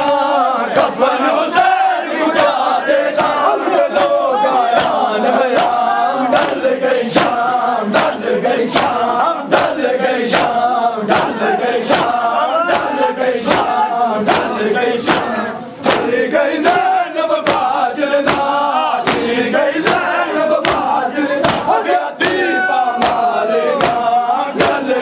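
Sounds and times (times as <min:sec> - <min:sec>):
men chanting in unison: 0:00.0 - 0:25.0.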